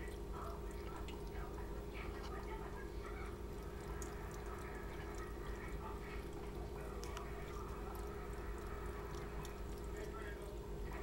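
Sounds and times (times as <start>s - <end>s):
cat lapping water: 0.0s - 11.0s
steady low hum: 0.0s - 11.0s.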